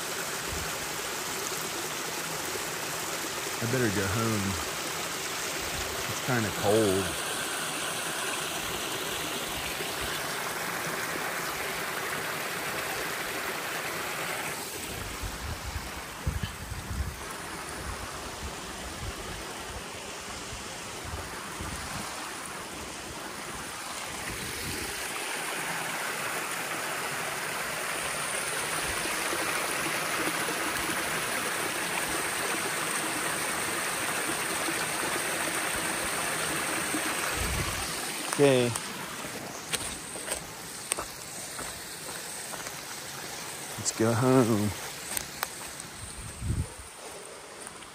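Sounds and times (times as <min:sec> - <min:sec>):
waterfall rushing water: 0:00.0 - 0:47.9.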